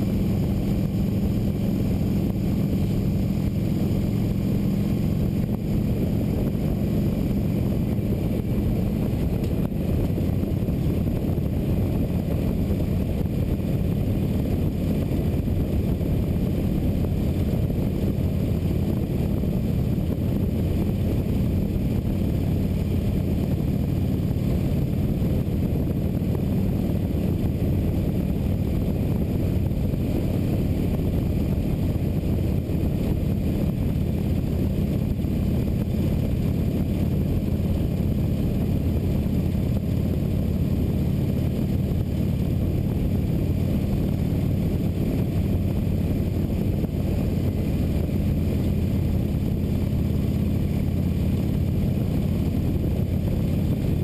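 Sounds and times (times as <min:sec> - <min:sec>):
motorcycle engine running: 0:00.0 - 0:54.0
rushing wind: 0:00.0 - 0:54.0.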